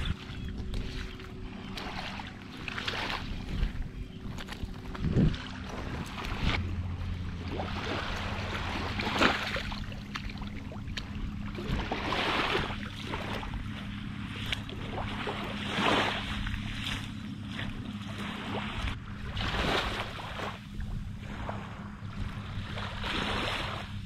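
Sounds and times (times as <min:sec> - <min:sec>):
footsteps splashing in shallow water: 0:00.0 - 0:24.0
steady low hum: 0:00.0 - 0:24.0.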